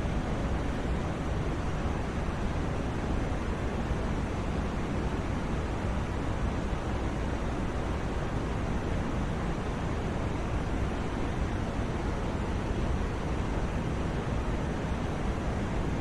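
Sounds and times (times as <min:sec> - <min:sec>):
steady white noise hiss: 0:00.0 - 0:16.0.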